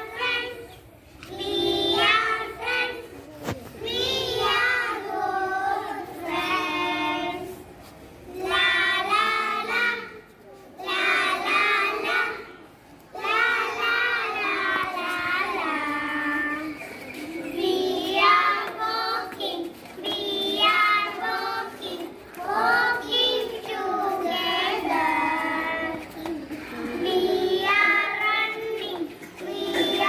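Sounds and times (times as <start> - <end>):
children singing: 0.0 - 3.2, 3.8 - 7.6, 8.3 - 12.6, 13.2 - 30.0.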